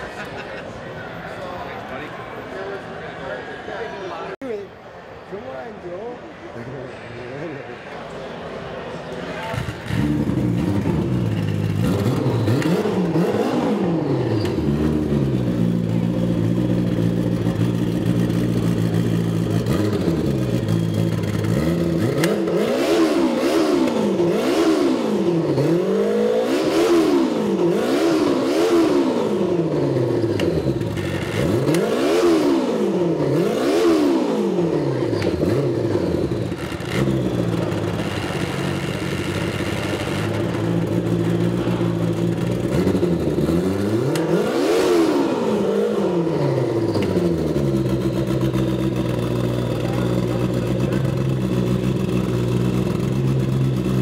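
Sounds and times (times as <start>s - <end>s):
snowmobile engine revving: 9.5s - 54.0s.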